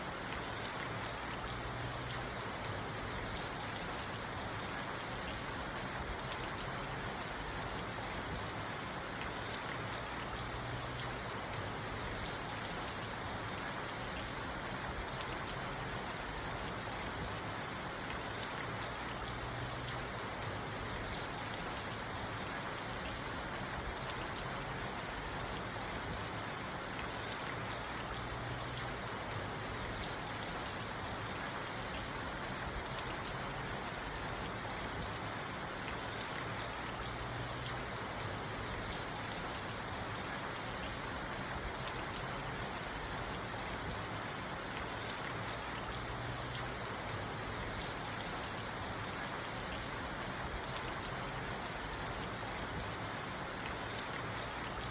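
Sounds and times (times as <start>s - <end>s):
rain on a car roof: 0.0s - 54.9s.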